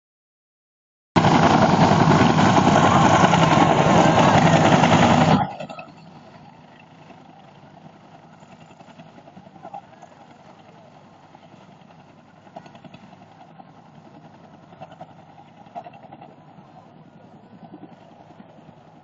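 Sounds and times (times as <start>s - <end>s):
distant helicopter: 1.2s - 19.0s
helicopter rotor and engine: 1.2s - 19.0s.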